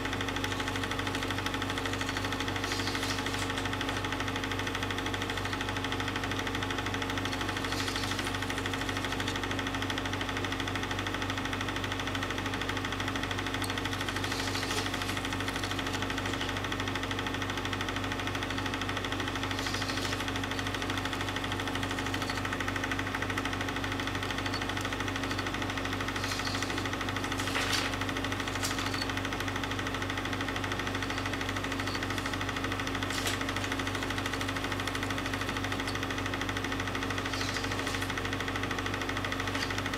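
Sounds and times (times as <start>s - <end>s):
film projector humming: 0.0s - 39.9s.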